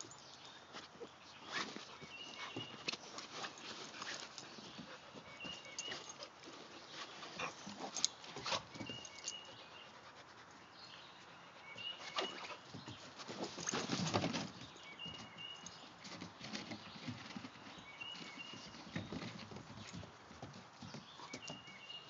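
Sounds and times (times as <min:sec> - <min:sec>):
paws scrabbling on wooden boards: 0:00.7 - 0:09.5, 0:11.8 - 0:22.0.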